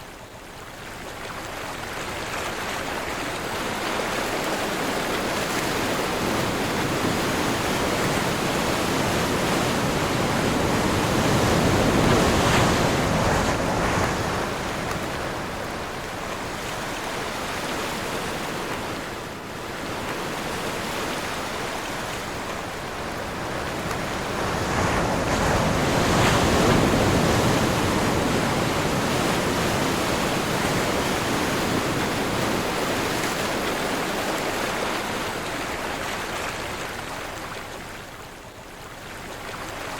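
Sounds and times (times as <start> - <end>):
ocean waves washing: 0.0 - 39.9
wind: 0.0 - 39.9
waves breaking: 1.0 - 39.9.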